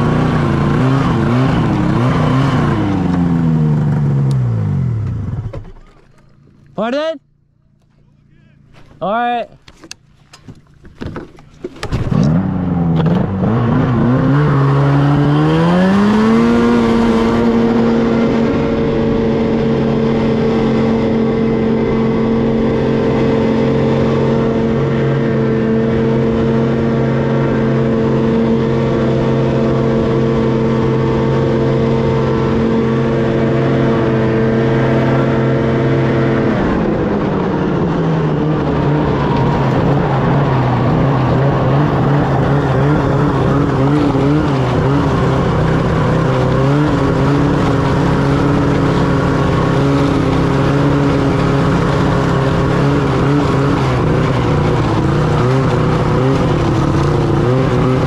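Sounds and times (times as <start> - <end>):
snowmobile engine revving: 0.0 - 5.6, 11.9 - 58.0.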